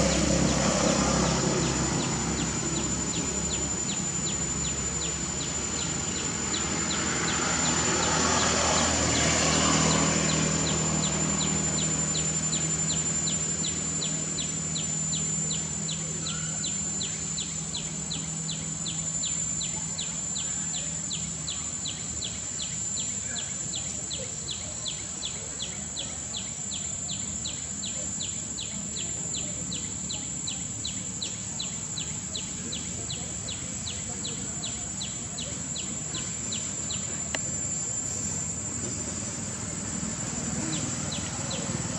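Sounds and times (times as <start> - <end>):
high-pitched insect drone: 0.0 - 41.9
low hum: 0.0 - 41.9
ticking insect call: 0.0 - 41.9.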